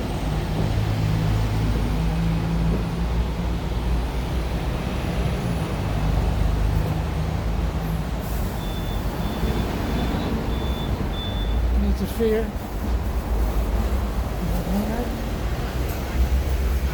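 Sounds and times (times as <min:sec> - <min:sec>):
tram rumbling on rails: 0:00.0 - 0:16.9.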